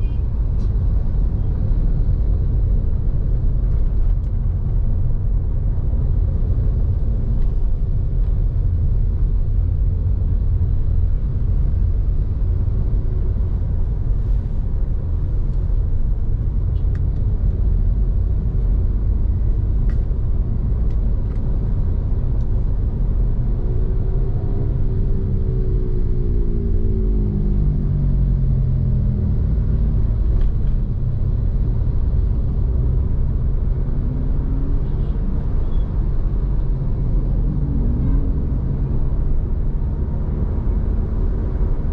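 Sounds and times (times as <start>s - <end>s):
low rumble of road traffic: 0.0s - 41.9s.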